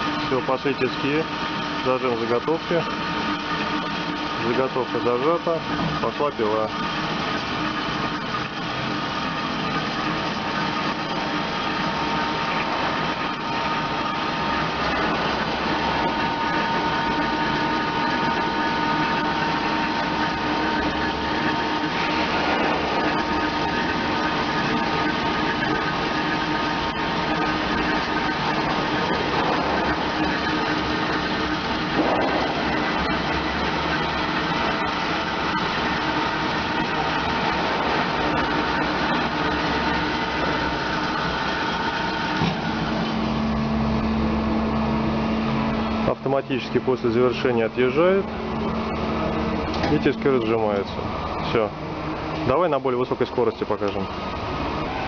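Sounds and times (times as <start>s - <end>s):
band saw cutting metal: 0.0s - 44.3s, 45.0s - 55.0s.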